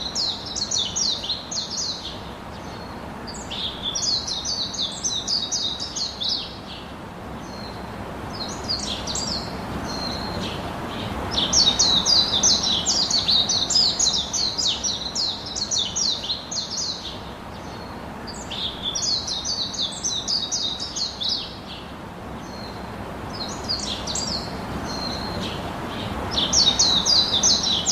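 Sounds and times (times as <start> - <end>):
bird chirping: 0.0 - 27.9
faint background hiss: 0.0 - 27.9.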